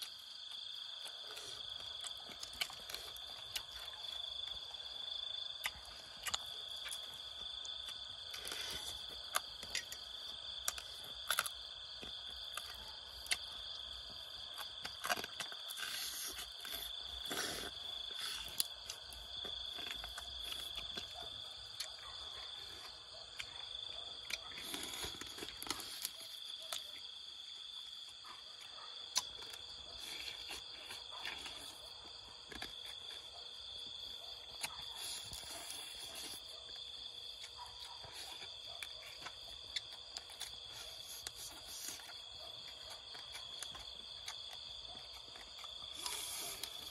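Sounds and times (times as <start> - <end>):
chewing and smacking: 0.0 - 46.9
insects chirring: 0.0 - 46.9.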